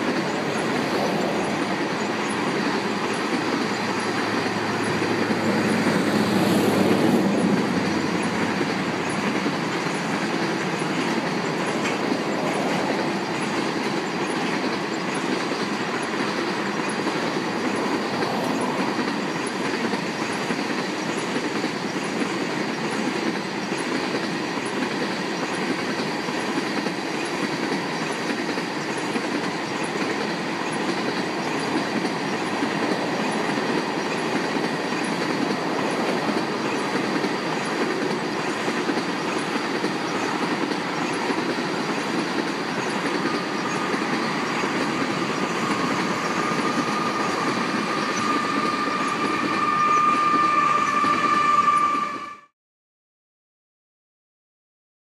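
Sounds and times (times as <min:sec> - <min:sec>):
train wheels rumbling and clattering: 0:00.0 - 0:52.3
diesel locomotive whine: 0:00.0 - 0:52.5.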